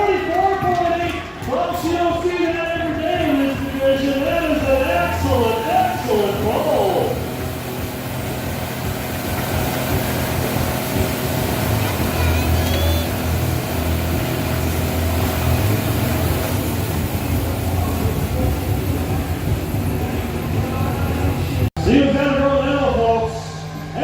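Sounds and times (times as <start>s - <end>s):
diesel truck engine rumble: 0.0s - 24.0s.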